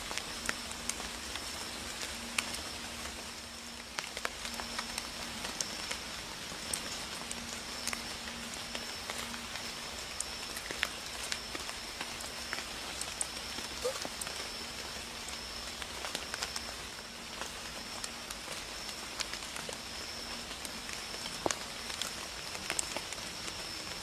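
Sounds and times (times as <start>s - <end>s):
drizzle dripping on surfaces: 0.0s - 24.0s.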